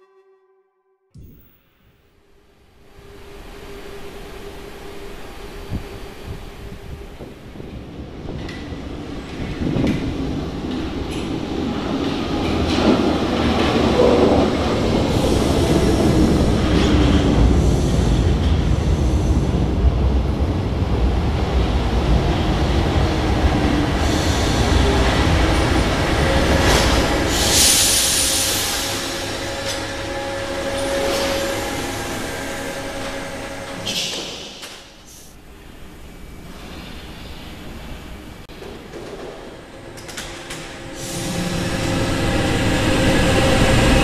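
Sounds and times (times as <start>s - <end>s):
train wheels rumbling on rail: 3.0s - 44.0s.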